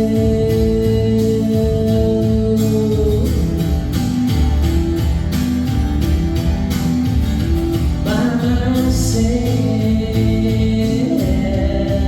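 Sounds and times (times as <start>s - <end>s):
bass: 0.0s - 12.0s
guitar: 0.0s - 12.0s
steady drum beat: 0.0s - 12.0s.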